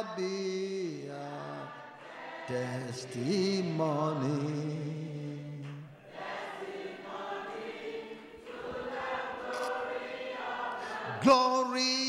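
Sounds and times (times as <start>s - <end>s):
congregation singing: 0.0s - 12.0s.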